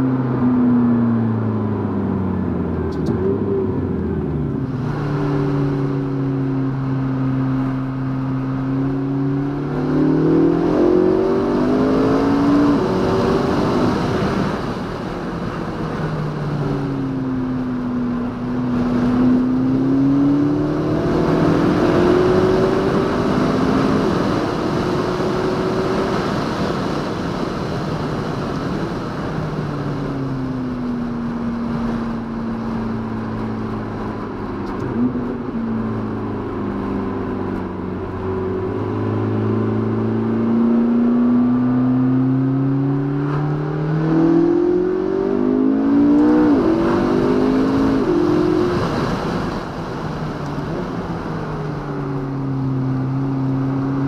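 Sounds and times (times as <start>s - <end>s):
car engine accelerating: 0.0s - 54.0s
road noise: 0.0s - 54.0s.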